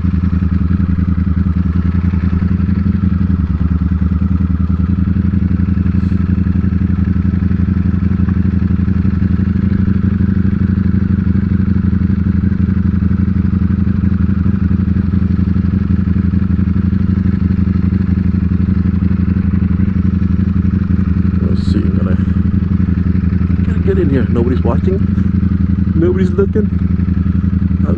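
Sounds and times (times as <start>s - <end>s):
motorcycle engine running steadily: 0.0s - 27.9s.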